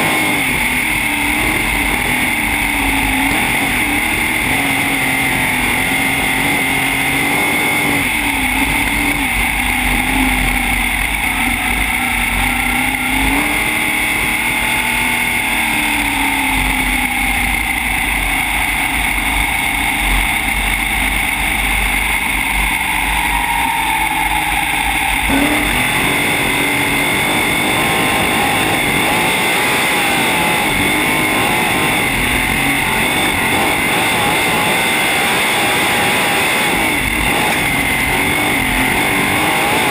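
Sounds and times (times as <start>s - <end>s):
racing car engine: 0.0s - 39.9s.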